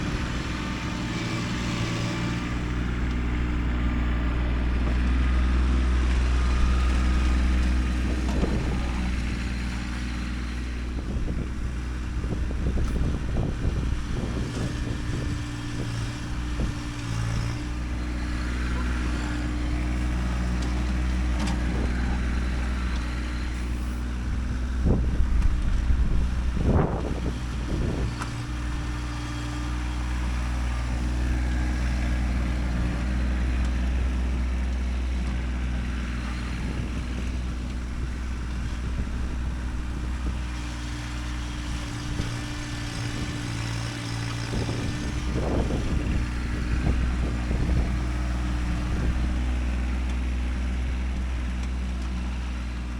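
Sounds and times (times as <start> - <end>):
engine clatter and knocks: 0.0 - 52.9
tractor diesel engine running: 0.0 - 52.9.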